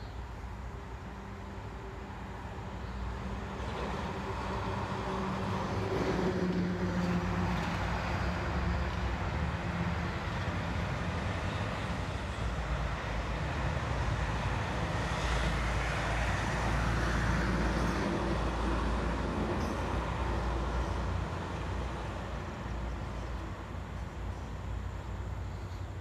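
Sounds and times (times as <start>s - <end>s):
deep rumble of passing vehicle: 0.0s - 26.0s
road rumble of passing cars: 0.0s - 26.0s.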